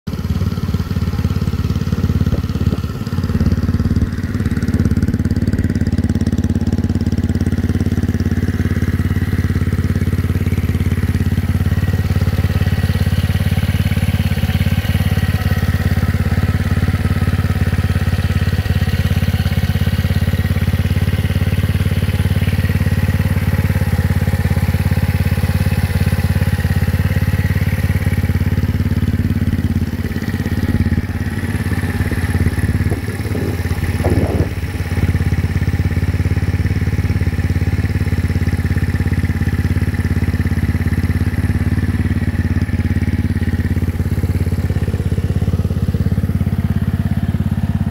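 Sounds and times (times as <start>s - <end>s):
scooter engine idling: 0.1s - 47.9s.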